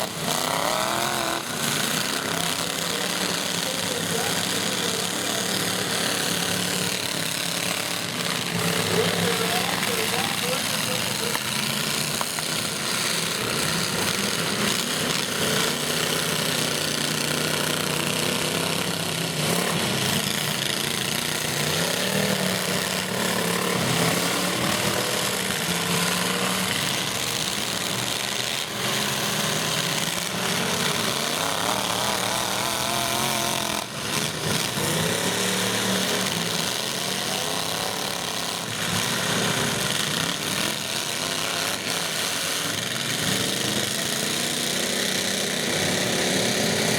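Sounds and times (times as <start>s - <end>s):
truck engines revving loudly: 0.0s - 46.9s.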